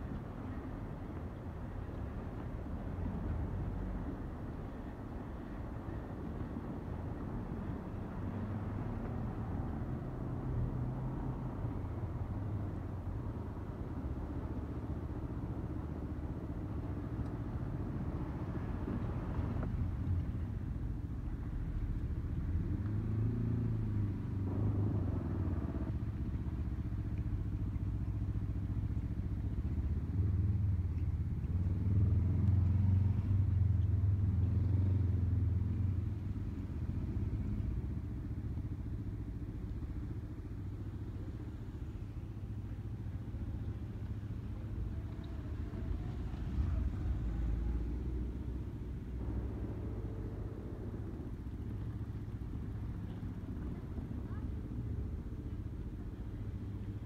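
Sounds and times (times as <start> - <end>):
low rumble of vehicles: 0.0 - 57.0.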